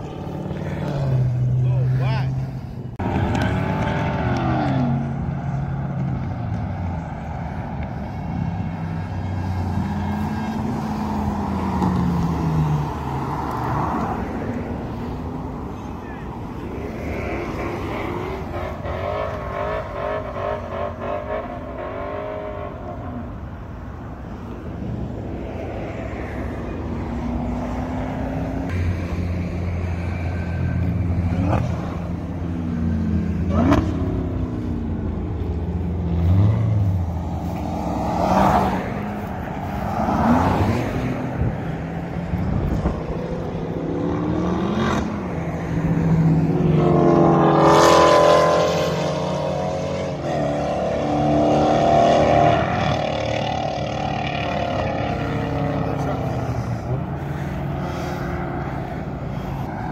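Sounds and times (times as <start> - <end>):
car engines accelerating hard: 0.0 - 59.9.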